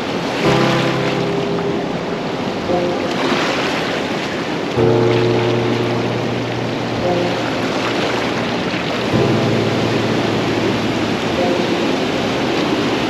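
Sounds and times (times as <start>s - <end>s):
river rapids rushing over boulders: 0.0s - 13.0s
low sustained tones: 0.4s - 13.0s.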